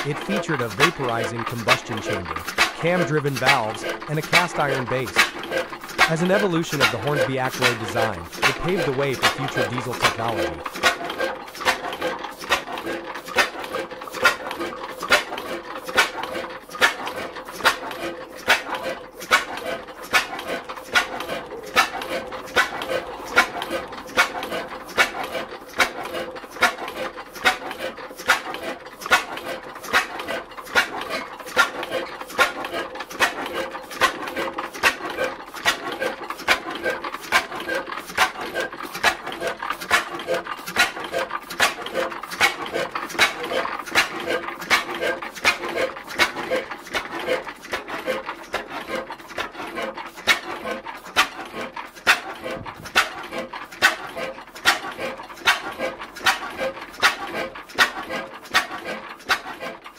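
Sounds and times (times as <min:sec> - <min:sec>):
oil engine running: 0:00.0 - 0:59.9
valve gear clicking and knocking: 0:00.0 - 0:59.9.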